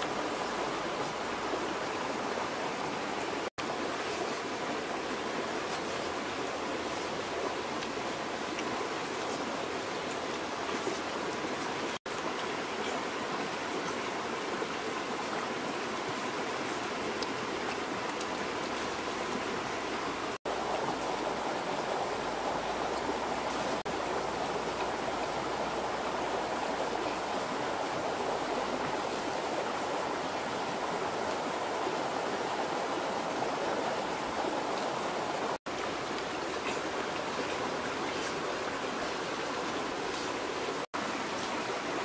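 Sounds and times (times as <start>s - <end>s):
stream rushing: 0.0s - 42.0s.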